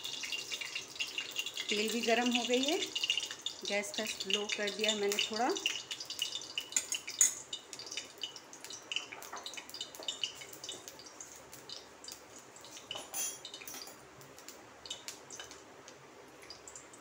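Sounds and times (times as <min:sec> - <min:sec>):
hot oil crackling and popping: 0:00.0 - 0:17.0.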